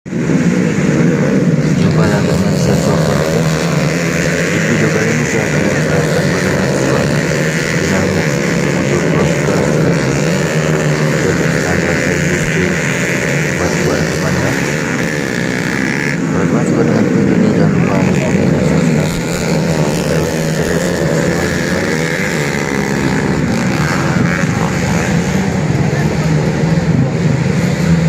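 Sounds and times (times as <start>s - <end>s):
motorcycle engines revving: 0.1s - 28.0s.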